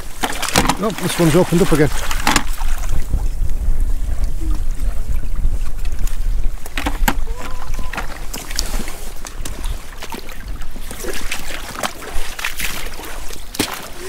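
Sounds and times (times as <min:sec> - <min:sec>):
water lapping at rocks: 0:00.0 - 0:14.0
wind buffeting microphone: 0:00.0 - 0:14.0.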